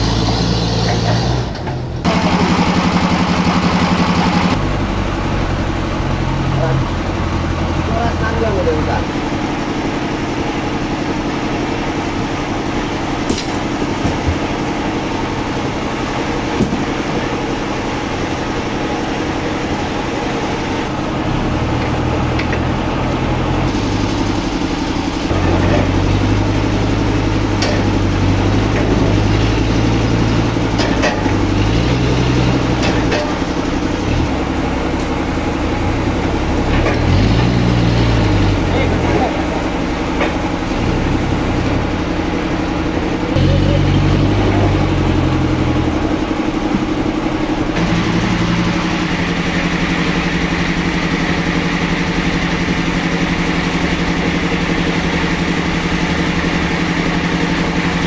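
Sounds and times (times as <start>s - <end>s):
forklift engine revving: 0.0s - 58.0s.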